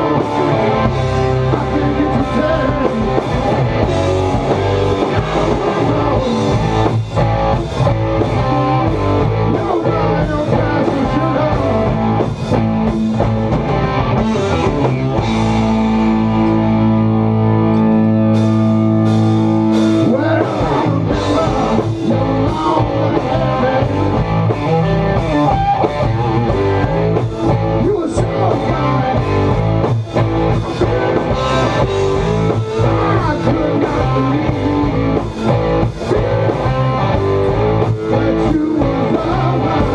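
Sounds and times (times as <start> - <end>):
drum kit: 0.0 - 39.9
electric bass: 0.0 - 39.9
electric guitars: 0.0 - 39.9.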